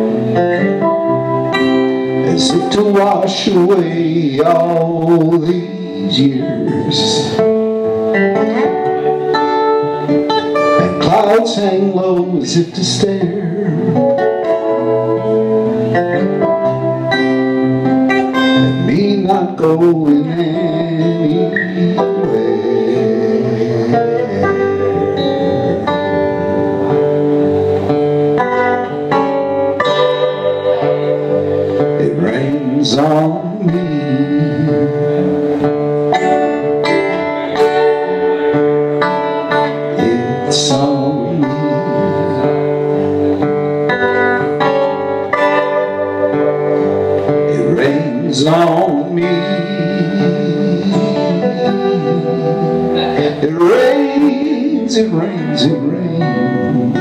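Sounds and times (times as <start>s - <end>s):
acoustic guitars picking: 0.0s - 57.0s.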